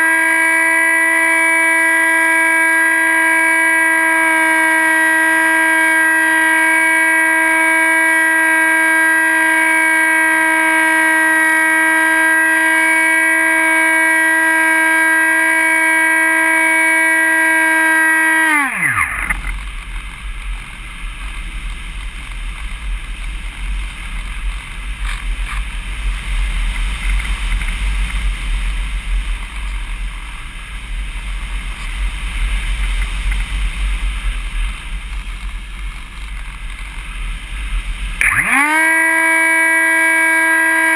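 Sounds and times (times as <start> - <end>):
electric motor and propeller whining: 0.0 - 40.9.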